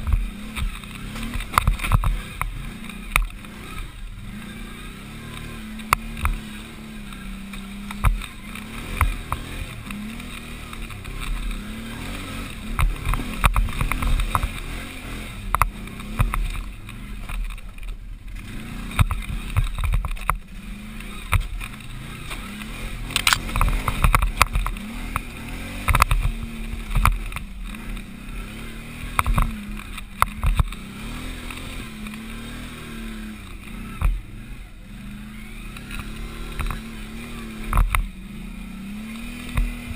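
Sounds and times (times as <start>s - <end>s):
engine revving on a climb: 0.0s - 39.9s.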